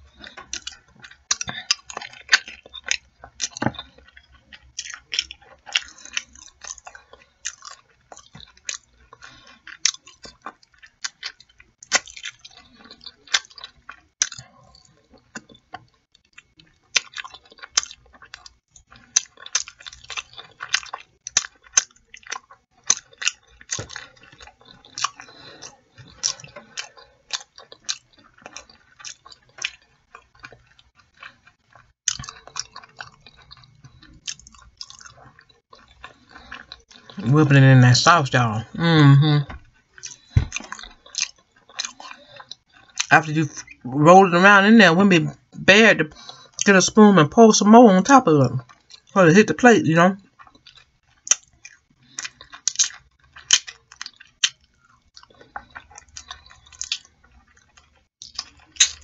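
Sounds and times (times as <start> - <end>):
close-up chewing: 0.0 - 46.7, 48.6 - 49.5, 50.2 - 59.0.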